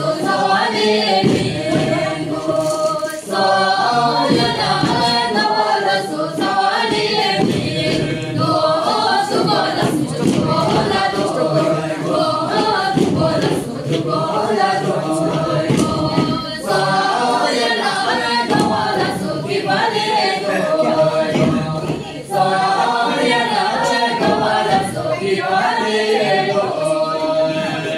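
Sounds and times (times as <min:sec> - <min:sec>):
group singing unaccompanied: 0:00.0 - 0:27.9.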